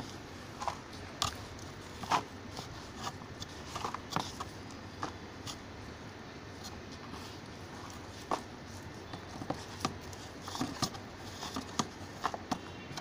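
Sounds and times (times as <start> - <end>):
stick stirring compost: 0.0 - 13.0.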